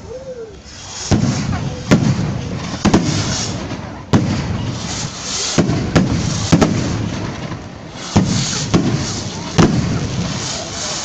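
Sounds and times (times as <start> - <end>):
steady rushing noise: 0.0 - 11.0
fireworks banging: 0.6 - 11.0.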